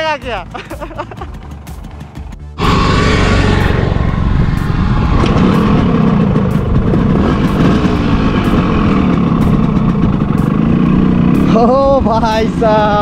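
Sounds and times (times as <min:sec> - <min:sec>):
motorcycle engine revving: 0:00.8 - 0:13.0.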